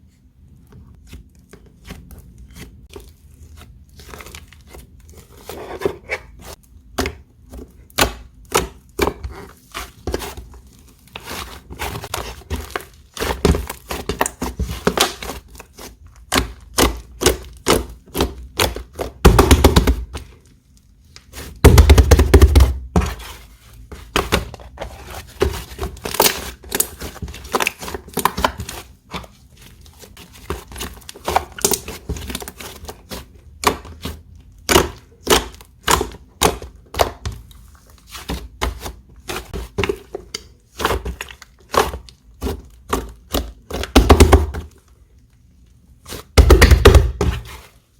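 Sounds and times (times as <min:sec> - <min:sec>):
slime squishing: 0:00.0 - 0:47.9.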